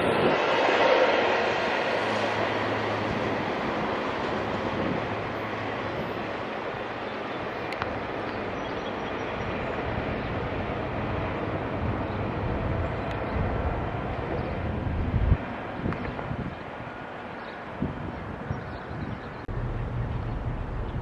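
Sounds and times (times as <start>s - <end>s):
train wheels rumbling on rails: 0.0s - 18.8s.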